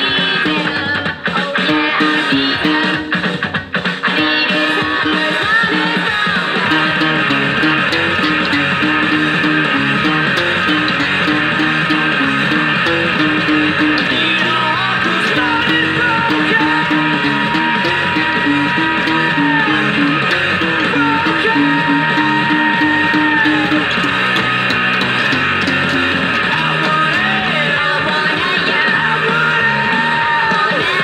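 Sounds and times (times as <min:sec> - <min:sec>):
person singing: 0:00.0 - 0:03.3, 0:04.1 - 0:31.0
rock song with electric guitars: 0:00.0 - 0:31.0.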